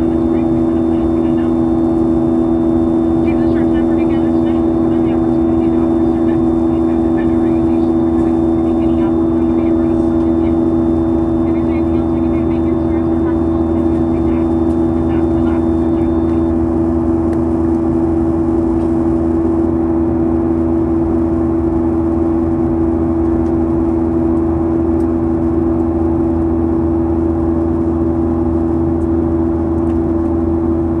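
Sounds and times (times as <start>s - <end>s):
jet engine drone in cabin: 0.0s - 31.0s.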